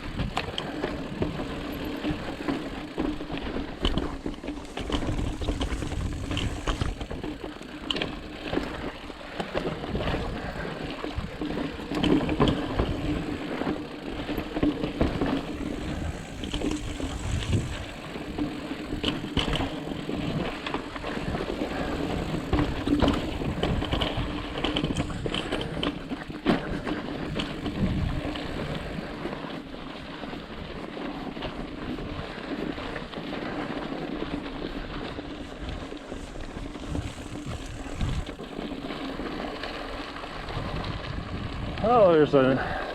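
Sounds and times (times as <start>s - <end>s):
bike knocking and rattling: 0.0s - 42.9s
bike tyres on rock and sand: 0.0s - 42.9s.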